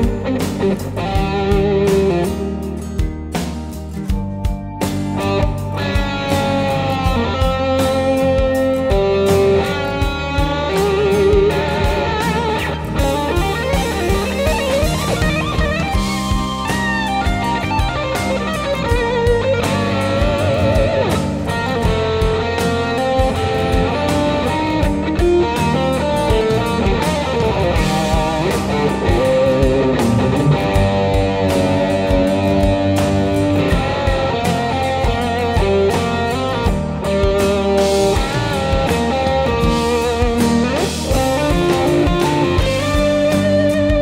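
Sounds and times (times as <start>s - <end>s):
bass guitar: 0.0s - 44.0s
drums: 0.0s - 44.0s
electric guitar solo: 0.0s - 44.0s
rock backing track: 0.0s - 44.0s.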